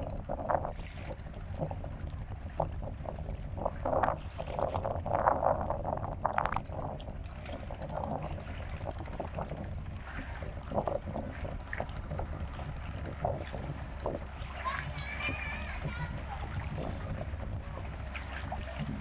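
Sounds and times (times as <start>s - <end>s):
shallow water lapping and splashing: 0.0s - 19.0s
wind rumble on microphone: 0.0s - 19.0s.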